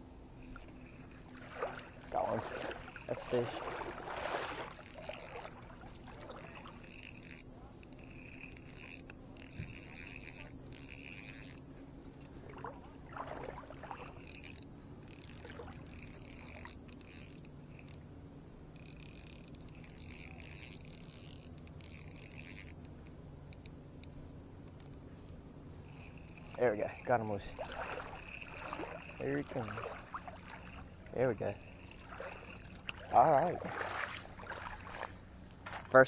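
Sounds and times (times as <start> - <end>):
faint low hum: 0.0 - 36.0
fishing reel cranking: 0.4 - 12.3, 13.6 - 18.1, 18.7 - 24.1, 25.8 - 34.9.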